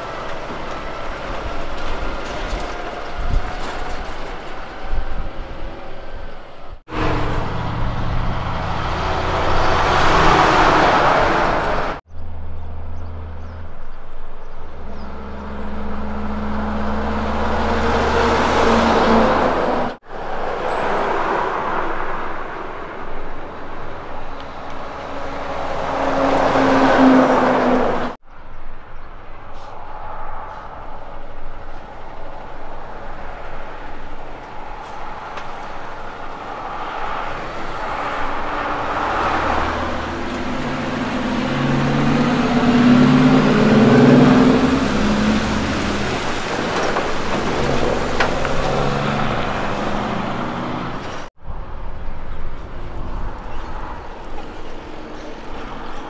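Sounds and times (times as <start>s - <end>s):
heavy diesel truck engines: 0.0s - 56.0s.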